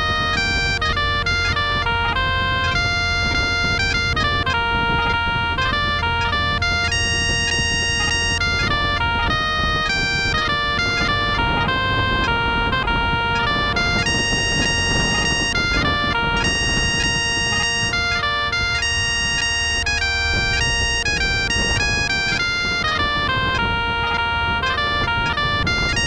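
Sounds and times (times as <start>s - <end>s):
bagpipe tune: 0.0s - 26.0s.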